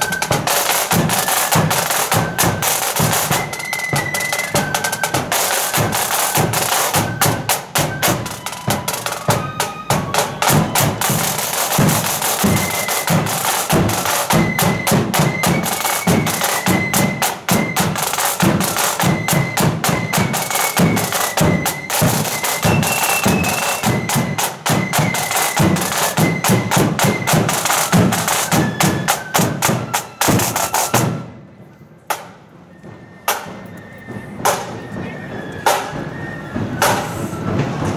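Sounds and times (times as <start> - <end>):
side drums rattling: 0.0 - 31.3, 32.0 - 37.9
flute melody: 0.0 - 37.9.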